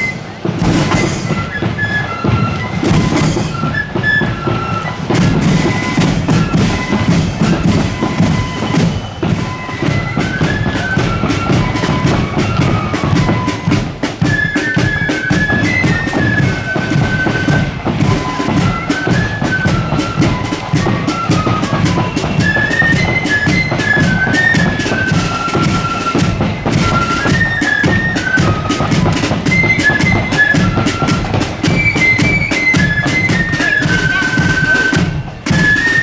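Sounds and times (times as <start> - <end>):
snare and bass drums: 0.0 - 36.0
wind instruments melody: 0.0 - 36.0.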